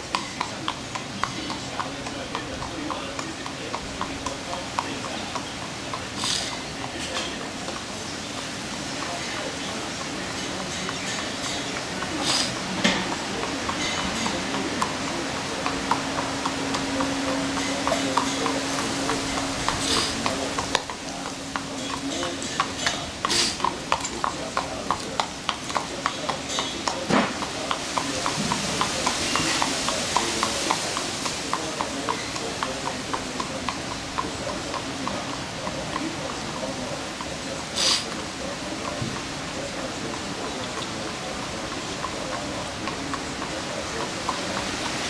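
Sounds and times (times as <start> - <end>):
horse hooves on asphalt: 0.0 - 45.0.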